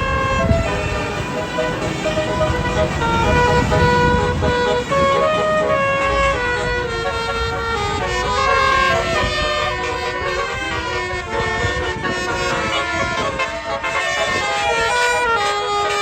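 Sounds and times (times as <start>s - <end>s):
low engine rumble: 0.0s - 16.0s
multi-tone bus horn melody: 0.0s - 16.0s.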